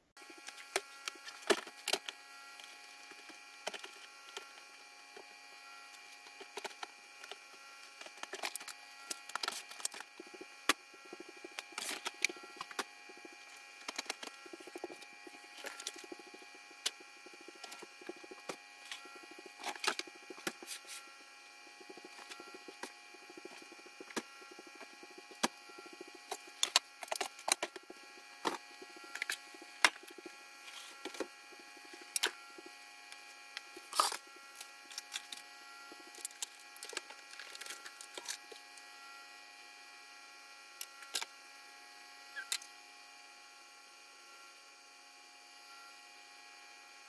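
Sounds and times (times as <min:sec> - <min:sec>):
steady electrical hum: 0:00.2 - 0:46.8.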